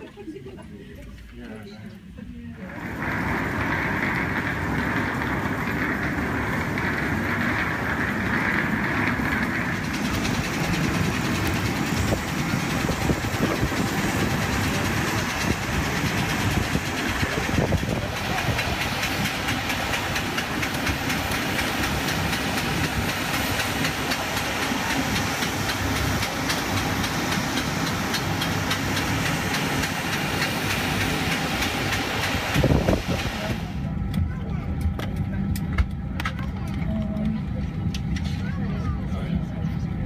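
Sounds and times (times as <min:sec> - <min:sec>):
passengers' voices: 0:00.0 - 0:40.0
aircraft and ground equipment drone: 0:02.7 - 0:40.0.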